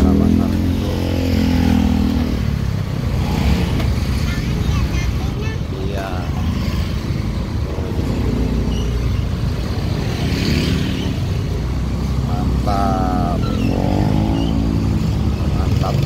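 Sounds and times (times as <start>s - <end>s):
motorcycle engine revving: 0.0s - 5.2s, 5.8s - 16.0s
small motorcycle engines and cars passing: 0.0s - 16.0s
voices of passers-by: 0.0s - 16.0s.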